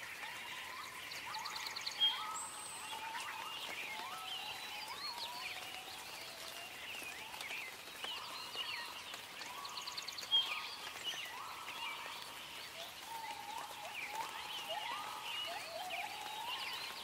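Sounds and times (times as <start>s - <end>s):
birds calling and chirping: 0.1s - 17.0s.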